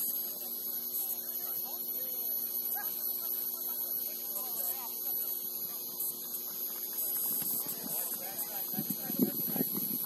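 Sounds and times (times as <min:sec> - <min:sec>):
electrical hum with high whine: 0:00.0 - 0:10.0.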